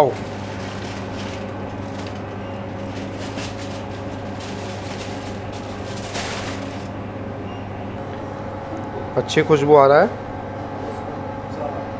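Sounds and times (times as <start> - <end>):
low machine hum: 0.0 - 11.9.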